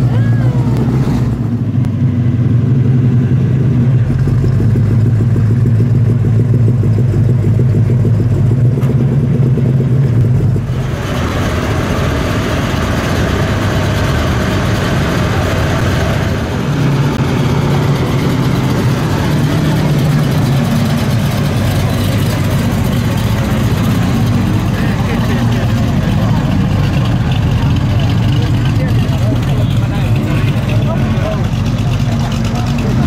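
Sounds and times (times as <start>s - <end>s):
car engine idling: 0.0s - 33.0s
car engine with open exhaust: 0.0s - 33.0s.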